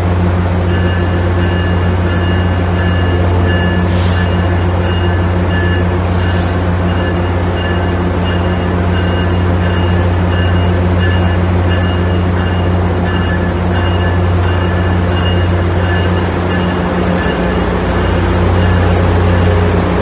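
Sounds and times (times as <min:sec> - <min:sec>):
train low hum: 0:00.0 - 0:20.0
train bell ringing: 0:00.5 - 0:20.0.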